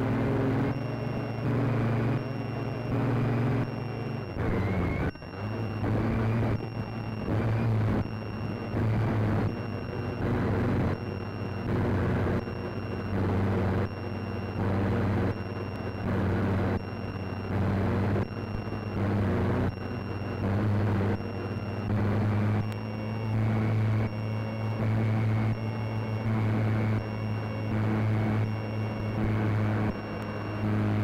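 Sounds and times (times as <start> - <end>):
buzzing hum: 0.0 - 31.0
high steady electronic beep: 0.0 - 31.0.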